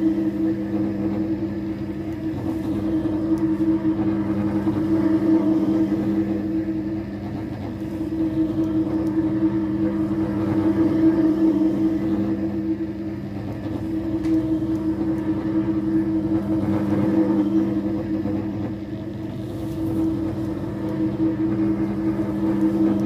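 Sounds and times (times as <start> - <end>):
floor polishing machine humming: 0.0 - 23.0.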